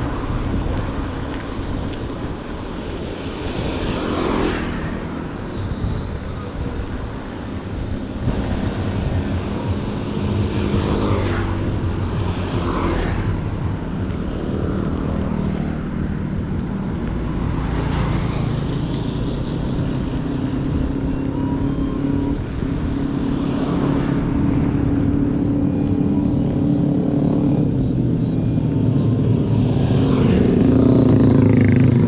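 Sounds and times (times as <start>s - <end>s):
motor vehicles humming: 0.0s - 32.0s.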